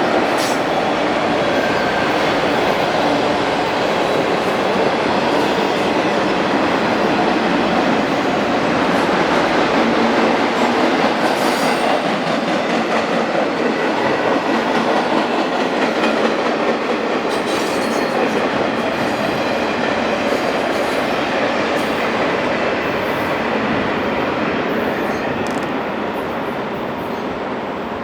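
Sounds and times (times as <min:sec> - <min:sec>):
train wheels rushing on rail: 0:00.0 - 0:28.0.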